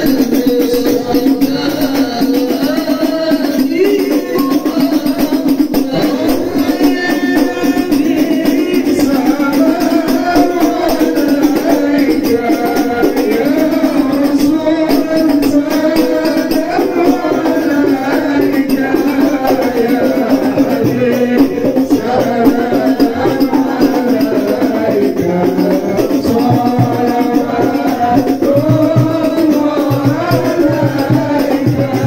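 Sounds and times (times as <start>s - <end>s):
jingling hand percussion: 0.0s - 32.0s
men singing together: 0.0s - 32.0s.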